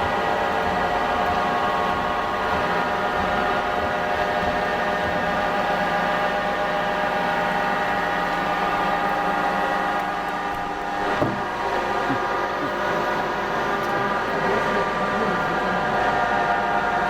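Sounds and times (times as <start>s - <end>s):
machine hum with whine: 0.0s - 17.0s.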